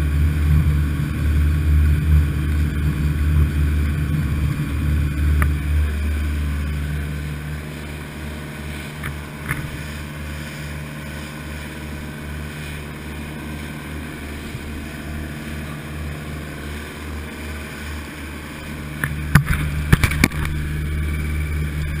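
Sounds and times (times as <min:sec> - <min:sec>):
motorboat engine droning: 0:00.0 - 0:22.0
wake rushing: 0:00.0 - 0:22.0.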